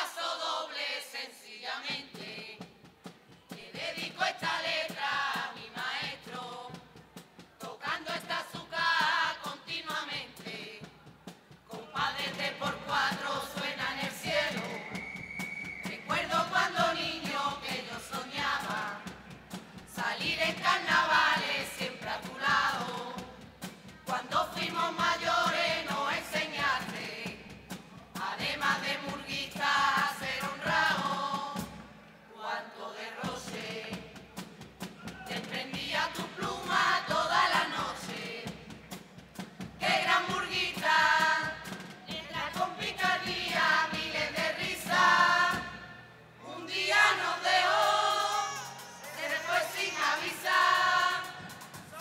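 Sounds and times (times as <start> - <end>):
choir of voices singing: 0.0 - 2.7, 3.5 - 11.0, 11.7 - 52.0.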